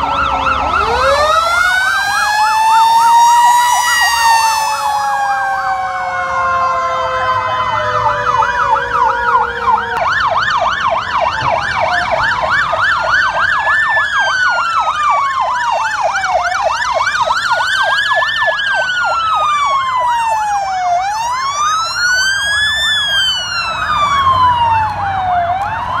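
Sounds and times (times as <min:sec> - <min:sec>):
siren gliding down in pitch: 0:00.0 - 0:26.0
siren wail rising and falling: 0:00.0 - 0:26.0
siren yelp: 0:00.0 - 0:26.0.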